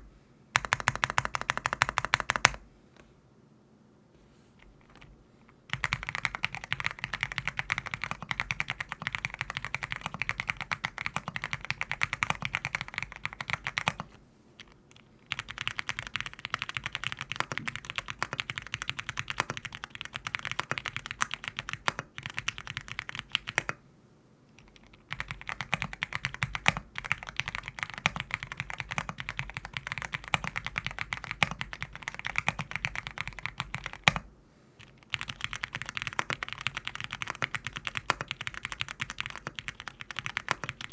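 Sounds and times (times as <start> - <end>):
mechanical keyboard typing: 0.6 - 2.6, 5.7 - 23.8, 24.6 - 40.9.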